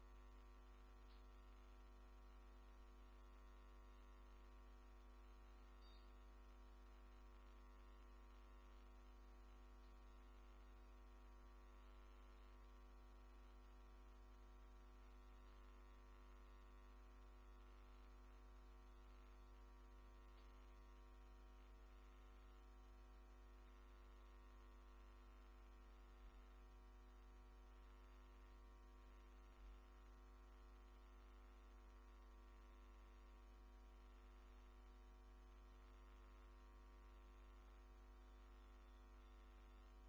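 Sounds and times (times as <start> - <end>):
faint electrical hum: 0.0 - 40.0.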